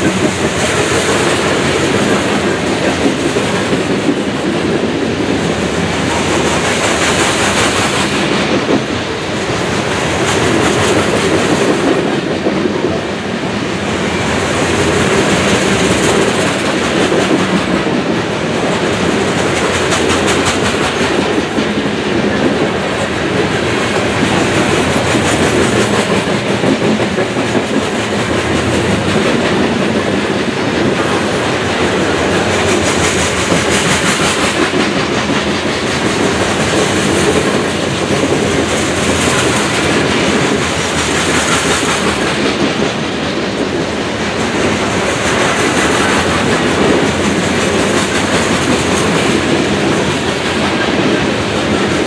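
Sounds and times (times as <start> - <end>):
train wheels clacking on rails: 0.0 - 52.0.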